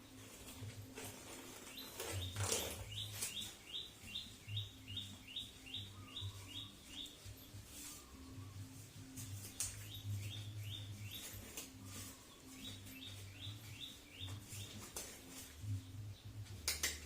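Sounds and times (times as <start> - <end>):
small bird chirping: 1.4 - 15.9.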